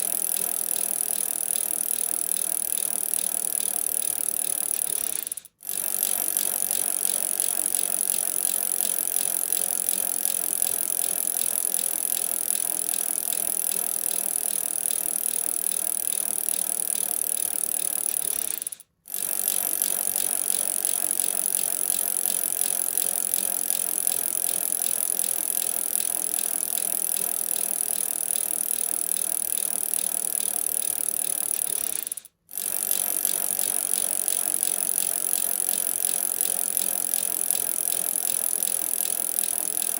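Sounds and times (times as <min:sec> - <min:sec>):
bicycle chain rattling: 0:00.0 - 0:39.9.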